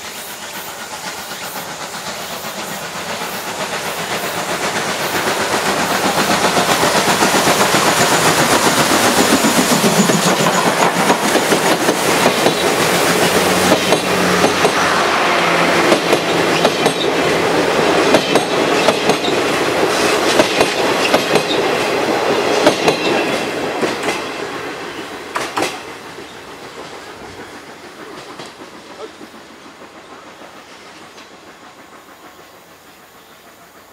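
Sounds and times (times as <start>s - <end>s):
train wheels clacking over rail joints: 0.0s - 33.9s.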